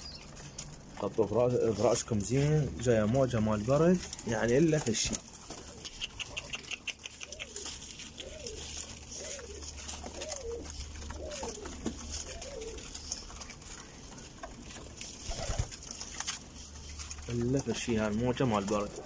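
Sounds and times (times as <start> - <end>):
beaks pecking at floor: 0.0 - 19.0
pigeons cooing: 0.0 - 19.0.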